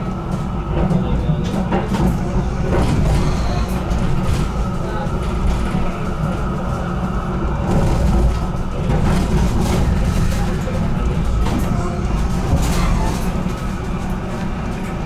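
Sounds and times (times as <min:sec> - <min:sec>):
tram wheels rumbling: 0:00.0 - 0:15.0.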